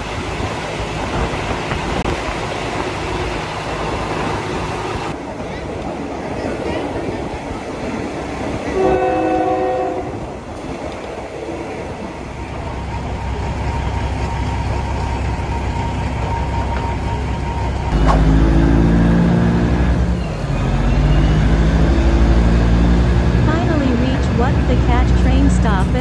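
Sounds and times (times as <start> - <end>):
diesel railcar engine humming: 0.0 - 26.0.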